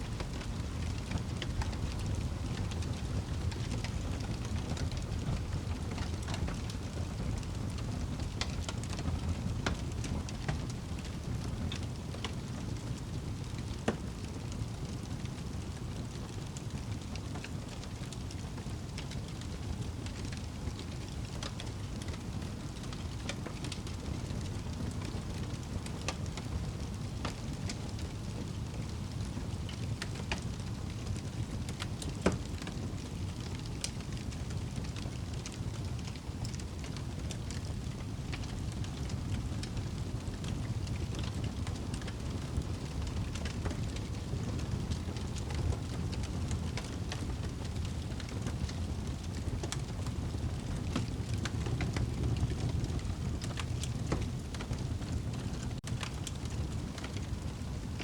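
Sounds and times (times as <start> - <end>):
fire crackling and popping: 0.0 - 58.0
fire low rumble: 0.0 - 58.0.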